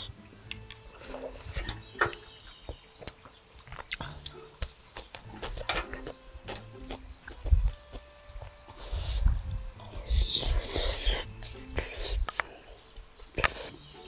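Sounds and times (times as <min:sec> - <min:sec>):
person chewing noodles: 0:00.0 - 0:13.9.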